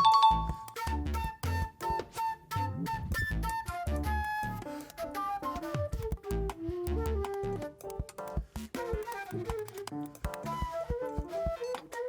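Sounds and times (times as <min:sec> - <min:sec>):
flute-like melody: 0:00.0 - 0:12.0.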